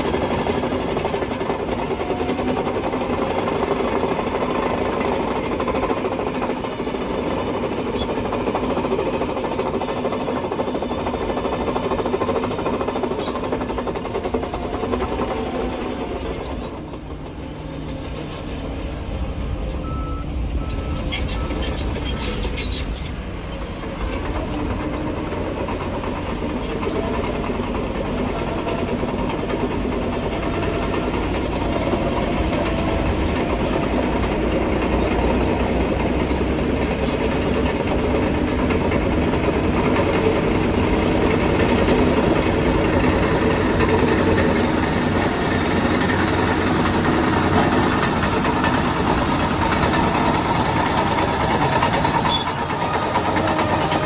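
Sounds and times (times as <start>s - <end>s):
bulldozer diesel engine running: 0.0s - 54.0s
steel tracks clanking: 0.0s - 54.0s.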